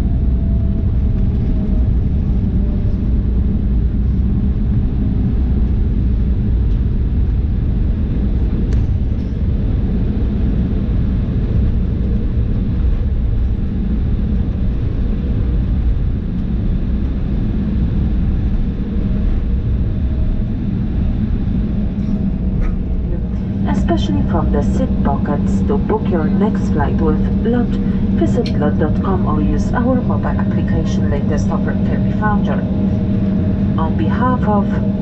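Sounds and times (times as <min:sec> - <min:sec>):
airliner cabin rumble: 0:00.0 - 0:35.0
constant hum: 0:00.0 - 0:35.0.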